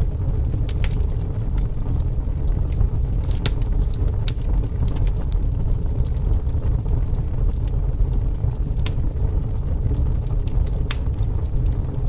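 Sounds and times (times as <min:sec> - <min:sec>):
campfire crackling: 0:00.0 - 0:12.0
steady low rumble: 0:00.0 - 0:12.0.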